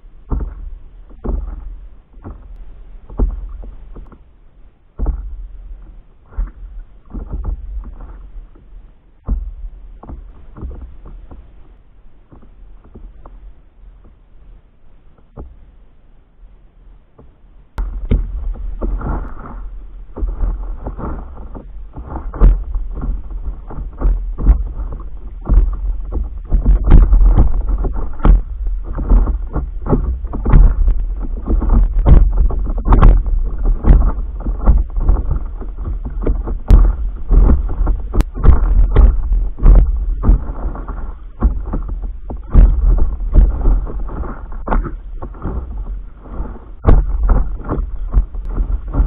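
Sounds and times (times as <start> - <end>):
water splashing against paddleboard: 0.0 - 15.8, 17.2 - 49.0
paddle strokes: 0.0 - 49.0
wind rumble on microphone: 0.0 - 49.0.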